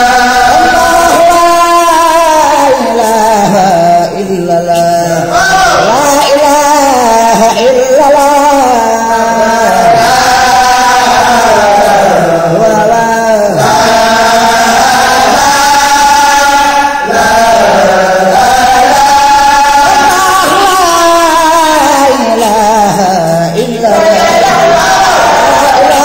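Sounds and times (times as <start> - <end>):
devotional chant: 0.0 - 26.0.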